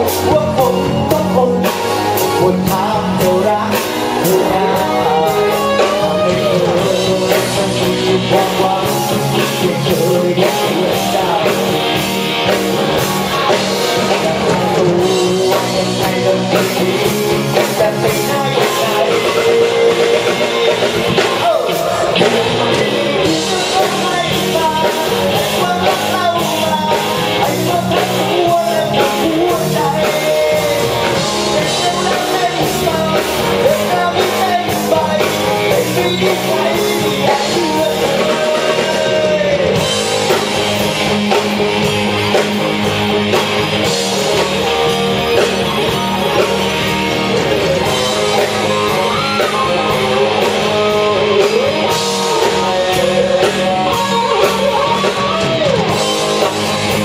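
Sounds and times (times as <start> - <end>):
bending melody line: 0.0 - 57.0
drum kit: 0.0 - 57.0
electric bass: 0.0 - 57.0
electric guitars: 0.0 - 57.0.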